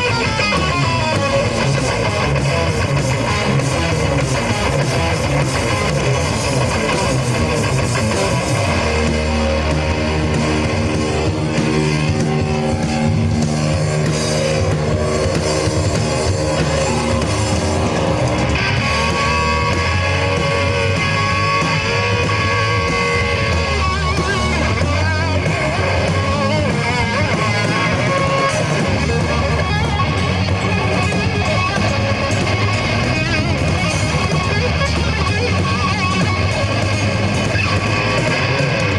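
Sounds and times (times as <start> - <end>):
distorted electric guitar: 0.0 - 38.9
rock band playing: 0.0 - 38.9.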